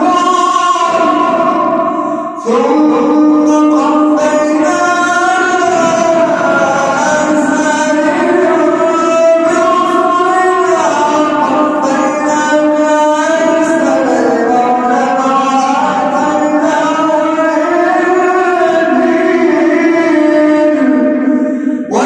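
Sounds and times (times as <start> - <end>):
man chanting melodically: 0.0 - 22.0.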